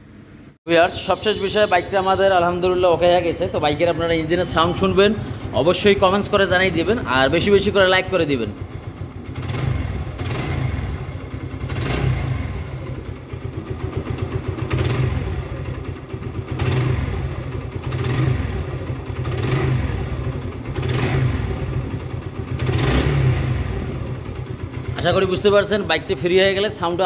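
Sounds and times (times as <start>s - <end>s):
motorcycle engine revving: 3.7s - 27.0s.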